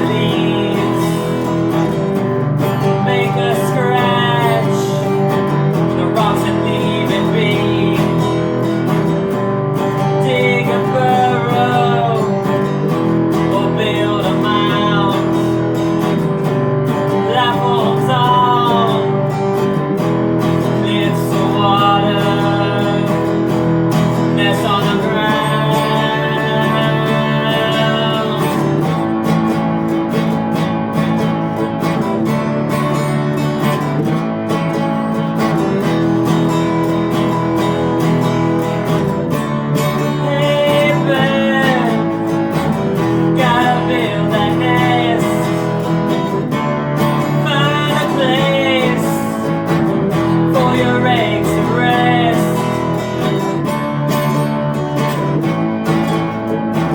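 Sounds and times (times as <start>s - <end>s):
strummed acoustic guitar: 0.0s - 56.9s
upbeat rock song: 0.0s - 56.9s.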